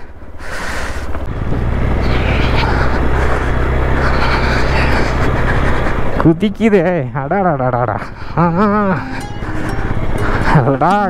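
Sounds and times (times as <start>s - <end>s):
motorcycle engine humming: 0.1s - 11.0s.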